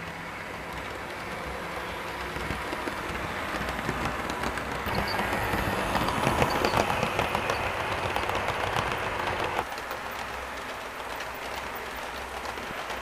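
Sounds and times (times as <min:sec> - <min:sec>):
model train wheels clicking on rails: 0:00.0 - 0:13.0.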